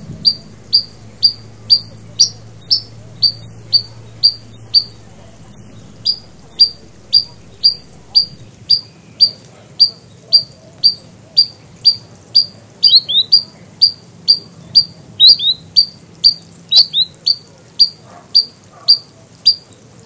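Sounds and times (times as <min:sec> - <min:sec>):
sandpiper calling: 0:00.0 - 0:19.6.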